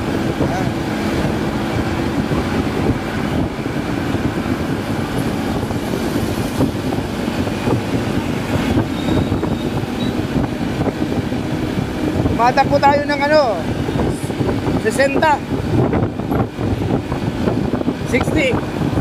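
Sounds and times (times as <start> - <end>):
scooter engine hum: 0.0 - 19.0
wind buffeting microphone: 0.0 - 19.0.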